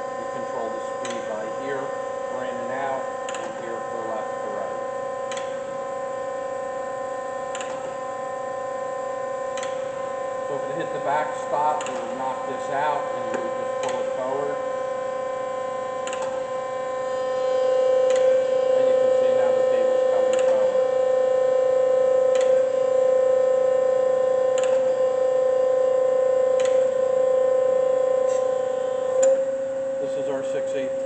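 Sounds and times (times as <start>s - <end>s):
surface grinder machine whine: 3.6s - 30.4s.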